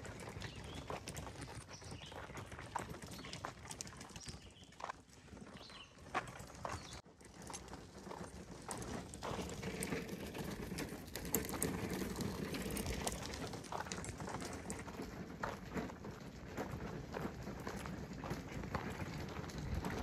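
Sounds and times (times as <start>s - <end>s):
cart wheels rattling over gravel: 0.0s - 20.0s
footsteps on gravel: 0.0s - 20.0s.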